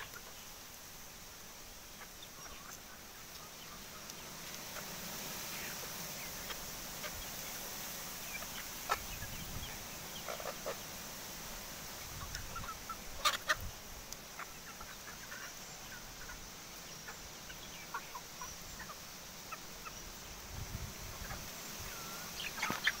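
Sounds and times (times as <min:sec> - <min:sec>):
steady hiss: 0:00.0 - 0:23.0
chickens and roosters calling: 0:01.7 - 0:23.0.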